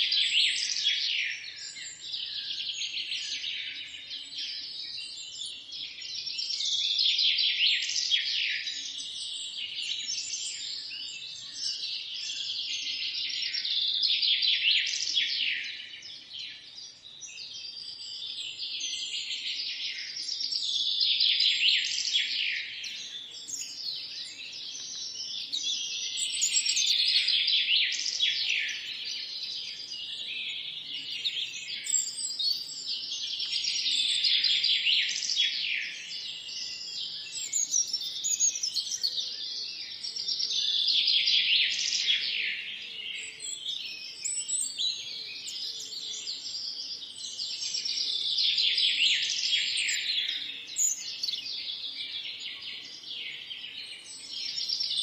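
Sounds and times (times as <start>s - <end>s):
chorus of songbirds singing: 0.0s - 55.0s.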